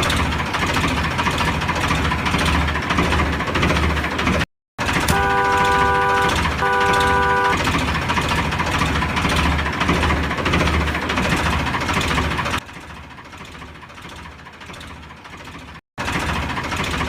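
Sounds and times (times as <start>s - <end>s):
mini tractor engine rumbling: 0.0s - 17.0s.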